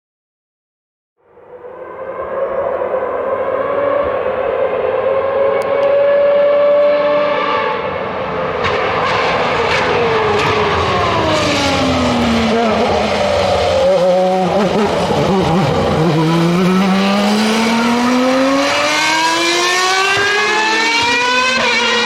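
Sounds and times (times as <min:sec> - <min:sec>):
racing car engine at high revs: 0:01.5 - 0:22.0.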